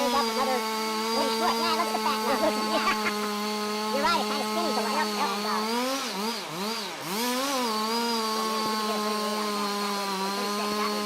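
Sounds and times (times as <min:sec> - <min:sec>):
chainsaw cutting at high revs: 0:00.0 - 0:11.0.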